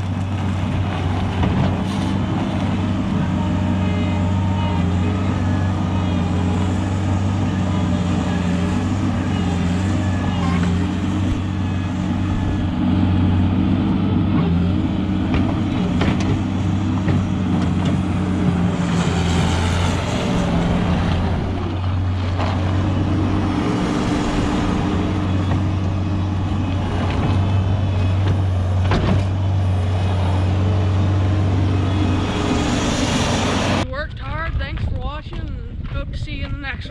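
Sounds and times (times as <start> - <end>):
heavy machine engine running: 0.0 - 35.2.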